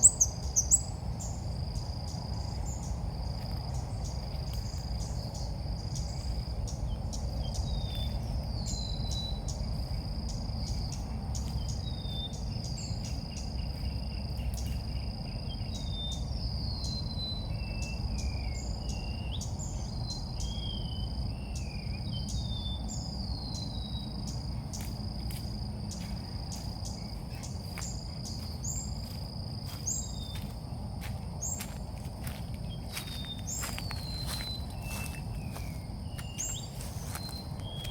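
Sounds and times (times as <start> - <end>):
high insect trill: 0.0 - 37.9.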